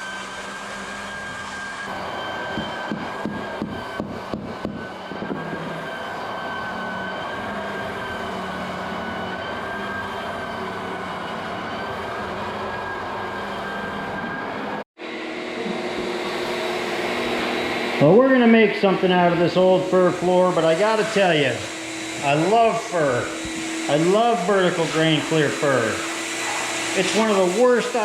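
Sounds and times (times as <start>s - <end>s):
electric machine whining: 0.0s - 28.0s
steady machine noise: 0.0s - 28.0s.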